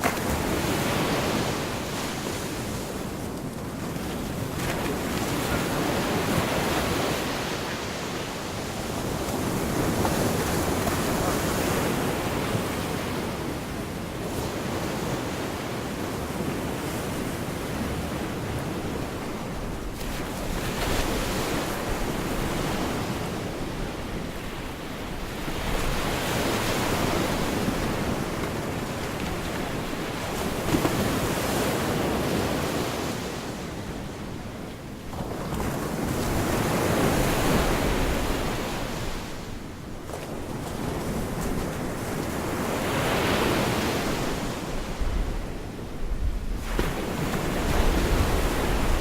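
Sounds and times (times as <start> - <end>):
surf washing onto a beach: 0.0 - 49.0.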